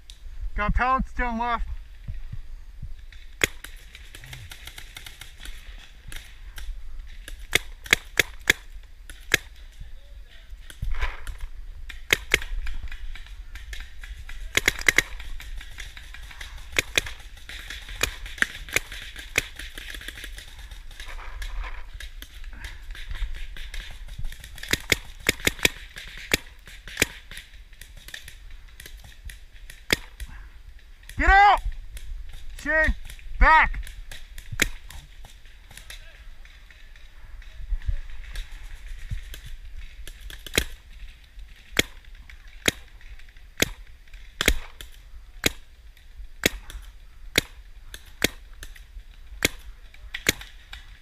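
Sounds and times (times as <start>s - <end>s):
paintball markers firing: 3.1s - 9.8s, 10.6s - 51.0s.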